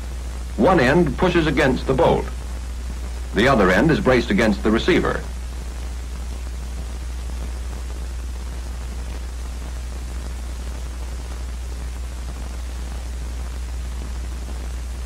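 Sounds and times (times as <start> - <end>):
constant low hum: 0.0 - 15.0
film soundtrack hiss: 0.0 - 15.0.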